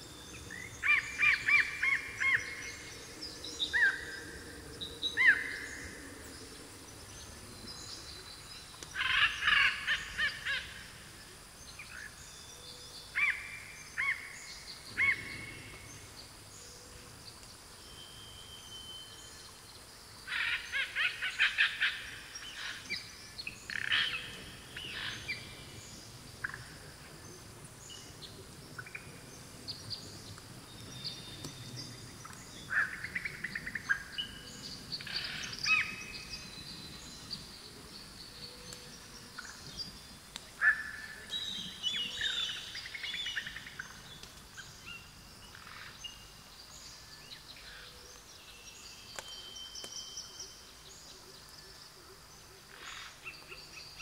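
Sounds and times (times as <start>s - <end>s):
songbirds singing and calling: 0.0s - 54.0s.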